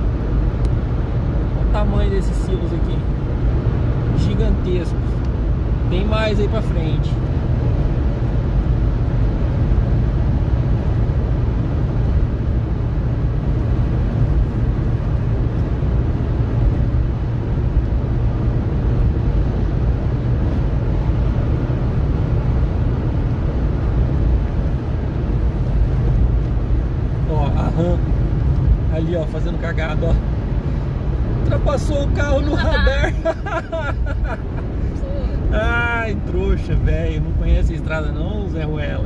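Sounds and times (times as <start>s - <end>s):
car road noise rumble: 0.0s - 39.0s.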